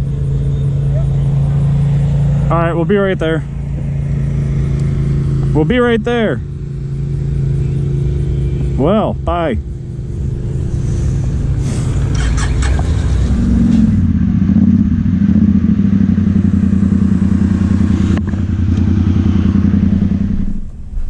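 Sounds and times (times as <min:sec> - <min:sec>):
atv engine running: 0:00.0 - 0:20.8.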